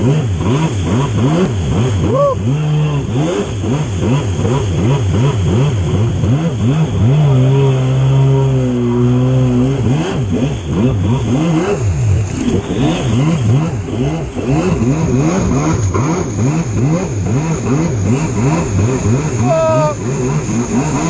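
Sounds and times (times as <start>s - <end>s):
jet ski engine: 0.0s - 21.0s
water spray rushing: 0.0s - 21.0s.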